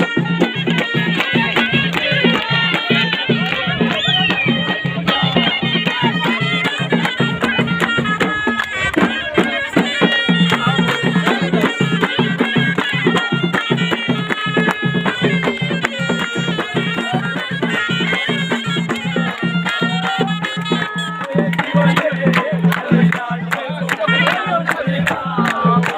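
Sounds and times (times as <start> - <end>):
double-reed shawm melody: 0.0 - 25.9
steady drum beat: 0.0 - 25.9.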